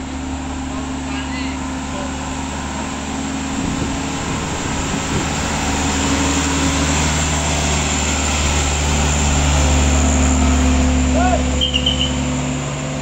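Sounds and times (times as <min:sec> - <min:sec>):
truck diesel engine pulling hard: 0:00.0 - 0:13.0.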